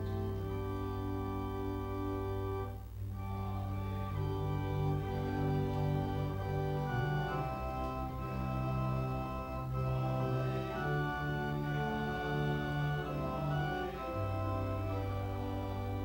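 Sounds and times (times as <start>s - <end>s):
church organ playing a hymn: 0.0s - 16.0s.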